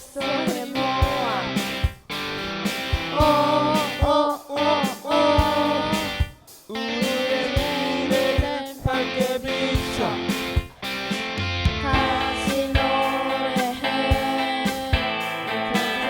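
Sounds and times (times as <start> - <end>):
children singing pop song: 0.0 - 11.0, 11.6 - 16.0
guitar backing track: 0.0 - 16.0
steady drum beat: 0.0 - 16.0.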